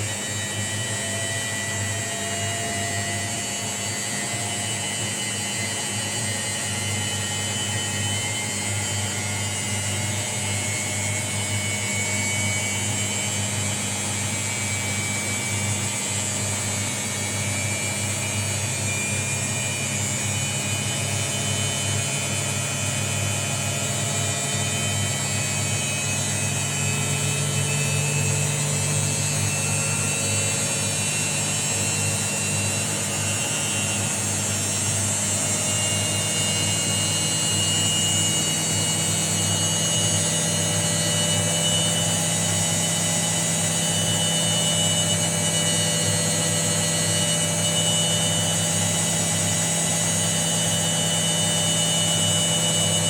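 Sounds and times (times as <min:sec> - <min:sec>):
washing machine motor hum: 0:00.0 - 0:53.0.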